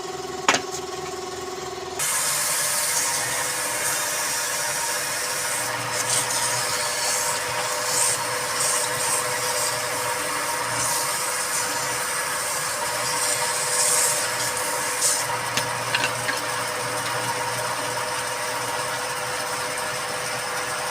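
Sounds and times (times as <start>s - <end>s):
wood lathe motor hum: 0.0s - 20.9s
turning tool cutting wood: 2.0s - 20.9s.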